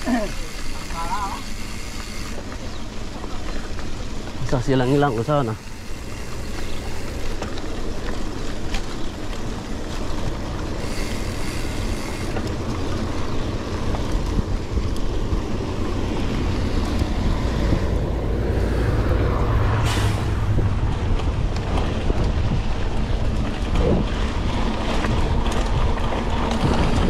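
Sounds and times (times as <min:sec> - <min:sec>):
car road noise on highway: 0:00.0 - 0:27.0.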